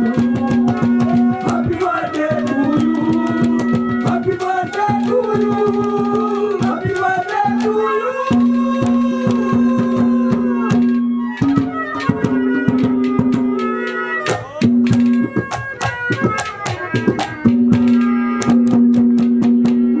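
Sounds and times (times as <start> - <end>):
hand drums played fast: 0.0 - 20.0.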